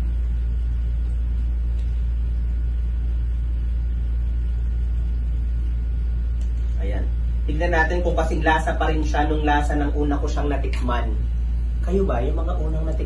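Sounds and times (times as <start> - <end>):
low rumbling hum: 0.0 - 13.0.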